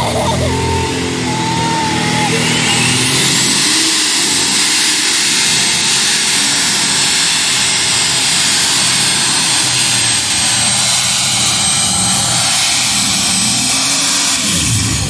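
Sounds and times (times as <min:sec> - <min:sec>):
tractor engine running loud: 0:00.0 - 0:15.0.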